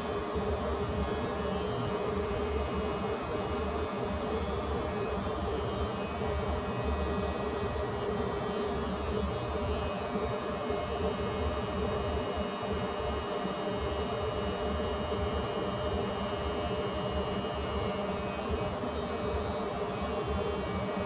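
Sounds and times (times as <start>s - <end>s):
electric hair clippers buzzing: 0.0s - 21.0s.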